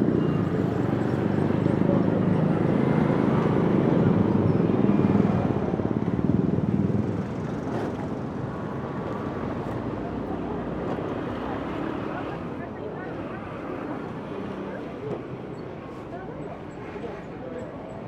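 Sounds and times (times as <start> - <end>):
city street rumble: 0.0 - 18.0.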